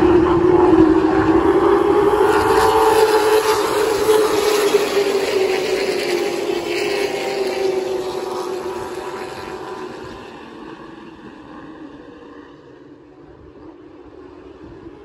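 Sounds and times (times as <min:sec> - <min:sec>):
racing trucks passing: 0:00.0 - 0:14.6.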